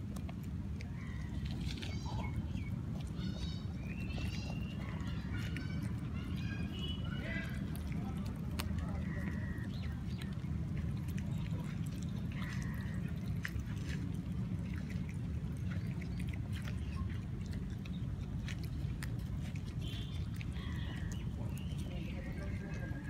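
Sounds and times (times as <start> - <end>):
puppy chewing food: 0.0 - 23.0
steady low rumble: 0.0 - 23.0.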